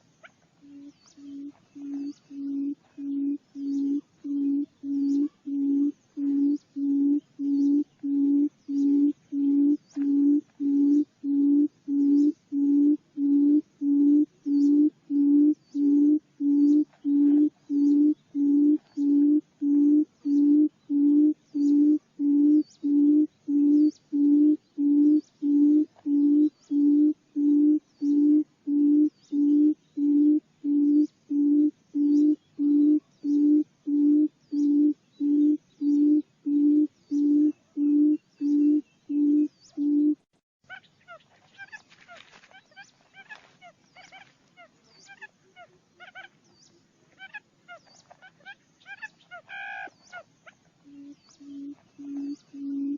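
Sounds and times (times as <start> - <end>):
bird low hooting call: 0.0 - 52.9.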